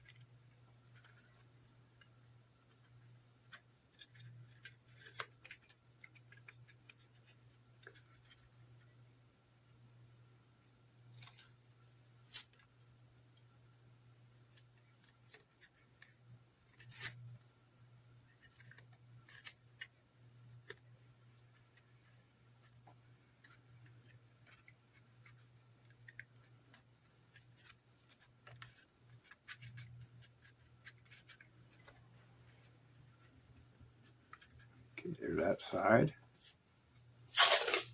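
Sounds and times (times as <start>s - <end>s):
faint low hum: 0.0s - 37.9s.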